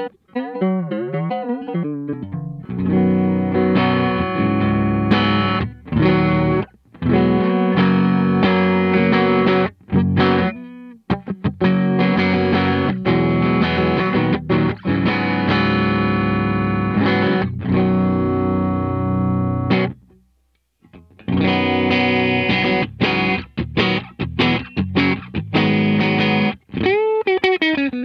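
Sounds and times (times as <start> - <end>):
electric guitar chords strummed: 0.0 - 20.2, 20.9 - 28.0.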